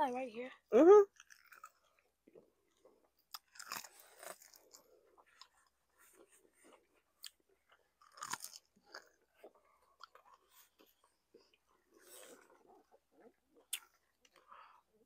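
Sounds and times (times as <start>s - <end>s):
chewing crispy food: 1.1s - 15.0s.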